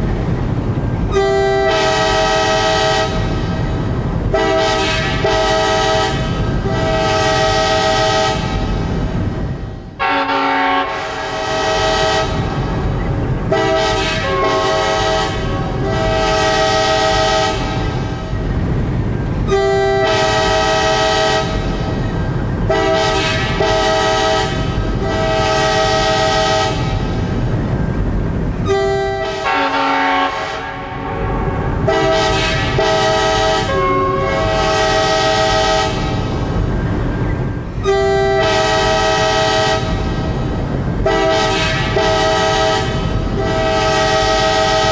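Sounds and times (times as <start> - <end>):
low rumble of train: 0.0 - 44.9
locomotive air horn blasts: 1.1 - 3.5, 4.3 - 9.0, 10.0 - 12.7, 13.5 - 18.4, 19.5 - 27.2, 28.6 - 36.4, 37.8 - 44.9.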